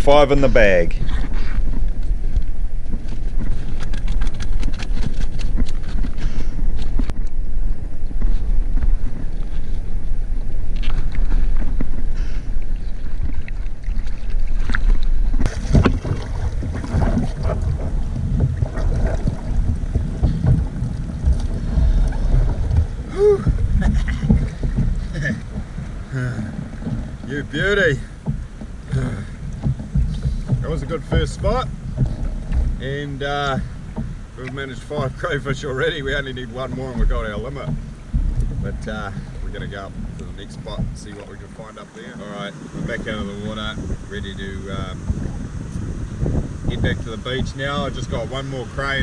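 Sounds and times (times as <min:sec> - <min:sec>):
wind buffeting microphone: 0:00.0 - 0:49.0
gear clicks and rustles: 0:00.4 - 0:49.0.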